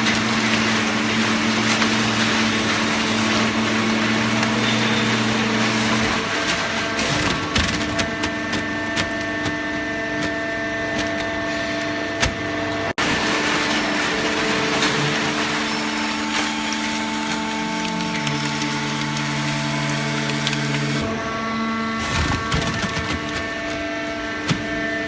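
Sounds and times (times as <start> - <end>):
hydraulic baler machine hum: 0.0 - 25.0.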